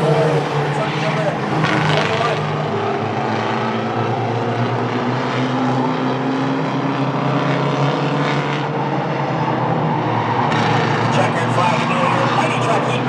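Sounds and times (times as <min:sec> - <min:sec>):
race truck engines droning: 0:00.0 - 0:13.0.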